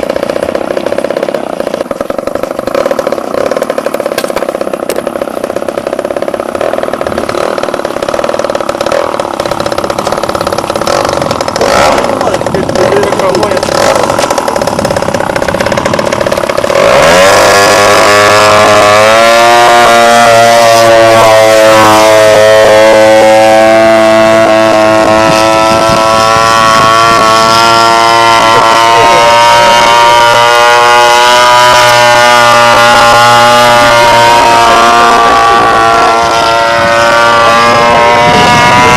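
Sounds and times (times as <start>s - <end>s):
model aeroplane motor droning: 0.0s - 38.9s.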